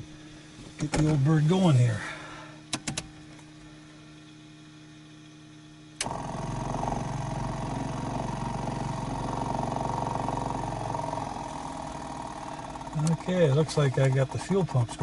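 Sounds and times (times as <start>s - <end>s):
electric fuel pump pulsing hum: 0.0s - 15.0s.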